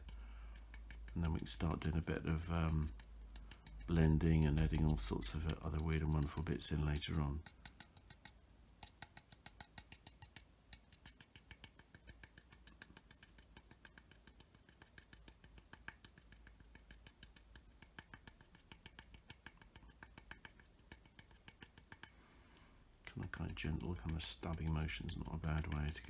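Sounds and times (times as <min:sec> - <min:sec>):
brush tapping on plastic: 0:00.0 - 0:22.2, 0:23.0 - 0:26.0.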